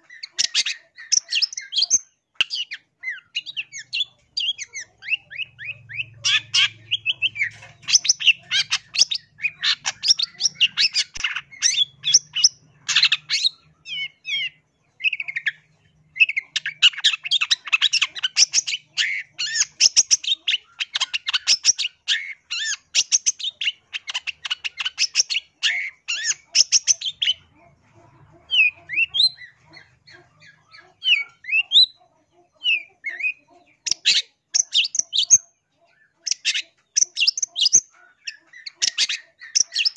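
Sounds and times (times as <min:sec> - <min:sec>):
shrike chattering song: 0:00.0 - 0:32.0.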